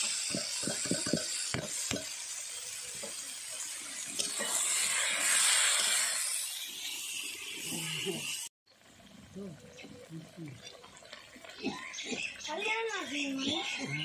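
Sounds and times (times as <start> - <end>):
cabbage sizzling in hot pan: 0.0 - 14.0.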